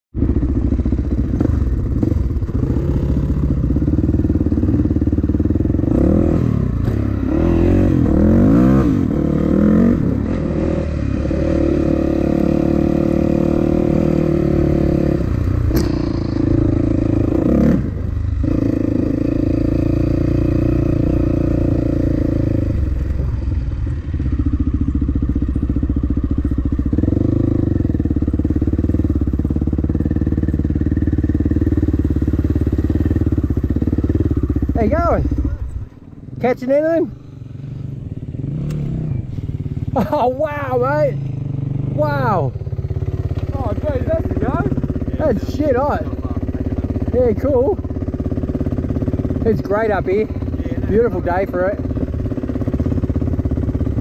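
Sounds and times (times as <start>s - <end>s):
dirt bike engine revving: 0.2s - 54.0s.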